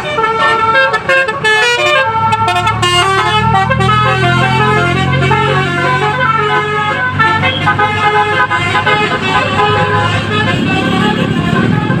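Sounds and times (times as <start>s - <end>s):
bus engine humming: 0.0s - 12.0s
musical air horn tune: 0.0s - 12.0s.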